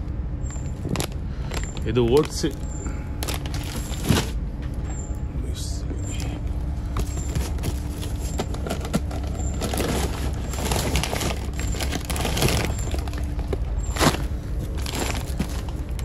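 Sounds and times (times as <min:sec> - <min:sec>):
ship machinery drone: 0:00.0 - 0:16.0
crackling and rustling: 0:00.4 - 0:04.9, 0:06.8 - 0:16.0.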